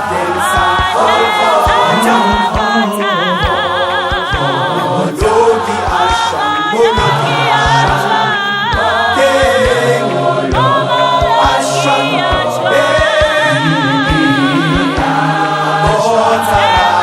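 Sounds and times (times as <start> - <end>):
steady low beat: 0.0 - 16.9
choir singing in harmony: 0.0 - 17.0.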